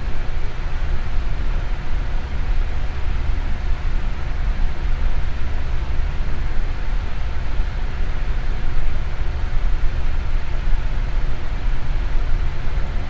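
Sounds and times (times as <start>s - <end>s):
electric fan blowing air: 0.0s - 13.0s
faint motor hum: 0.0s - 13.0s.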